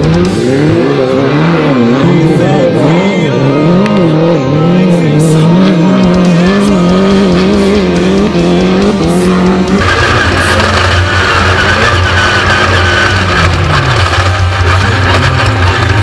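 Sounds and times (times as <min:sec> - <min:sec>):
high harsh engine note: 0:00.0 - 0:16.0
race buggy engine running hard: 0:00.0 - 0:16.0.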